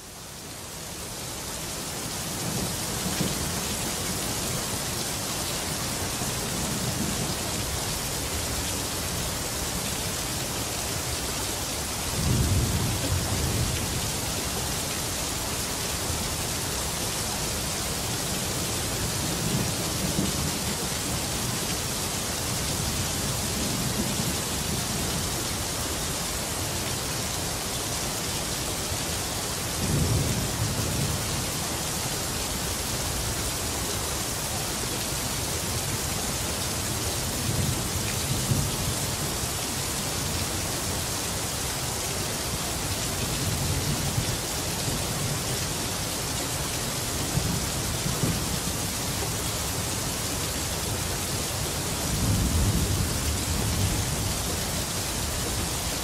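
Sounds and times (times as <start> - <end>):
steady rain hissing: 0.0 - 56.0.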